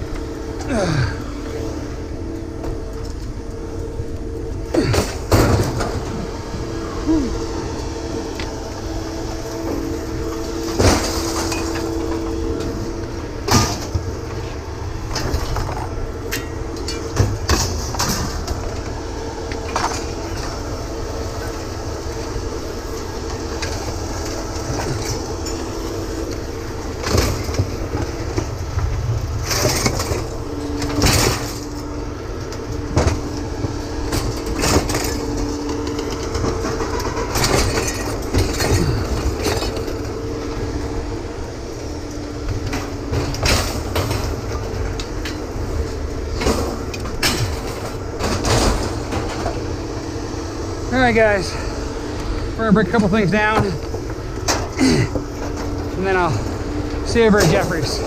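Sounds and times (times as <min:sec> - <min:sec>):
vehicle road and engine rumble: 0:00.0 - 0:58.0.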